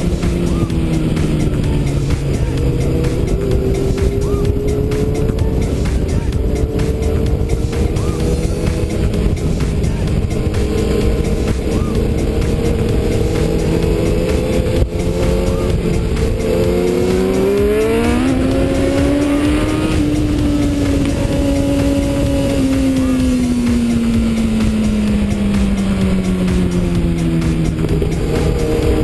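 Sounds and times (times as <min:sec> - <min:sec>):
motorcycle engine revving: 0:00.0 - 0:29.0
wind rumble on microphone: 0:00.0 - 0:29.0.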